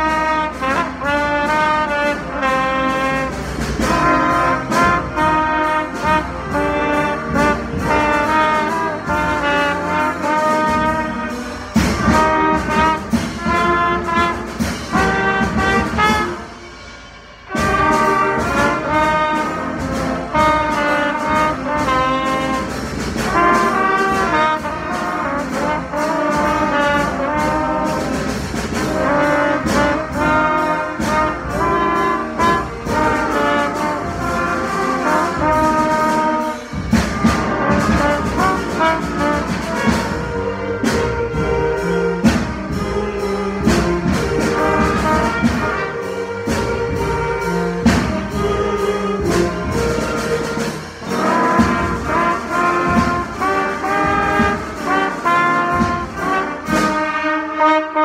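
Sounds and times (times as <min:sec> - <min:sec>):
brass band trumpets playing: 0:00.0 - 0:58.0.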